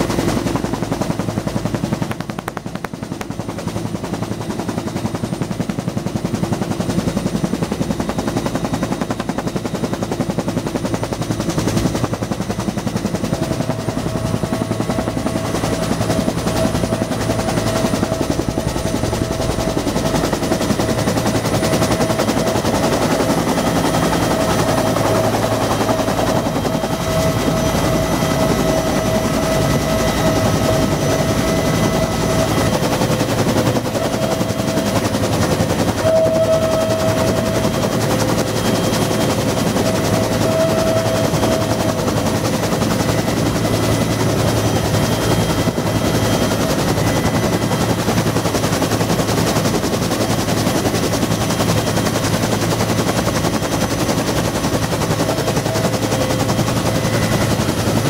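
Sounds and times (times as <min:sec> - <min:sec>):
helicopter rotor chop: 0:00.0 - 0:58.0
turbine engine whine: 0:00.0 - 0:58.0.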